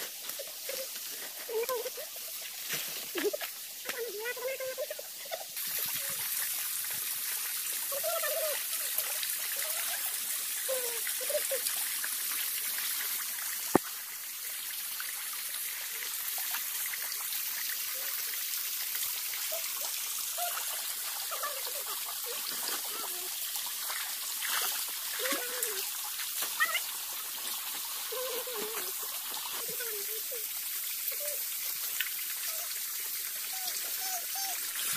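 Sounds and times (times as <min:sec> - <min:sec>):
water trickling over rock: 0:00.0 - 0:34.9.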